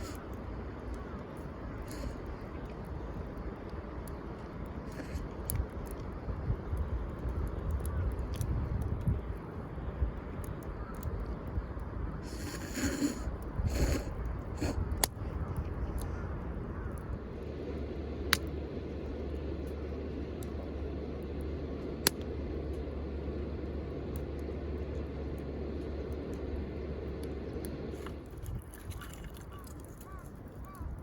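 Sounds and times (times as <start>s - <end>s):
campfire popping: 0.0s - 31.0s.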